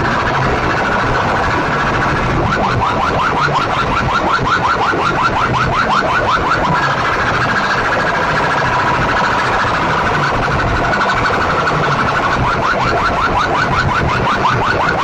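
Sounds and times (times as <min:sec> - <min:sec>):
electronic siren sound effect: 0:00.0 - 0:15.0.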